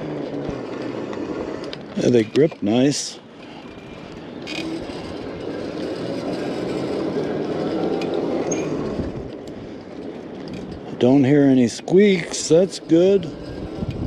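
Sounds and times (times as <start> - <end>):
electric bike tyres rumbling: 0.0 - 14.0.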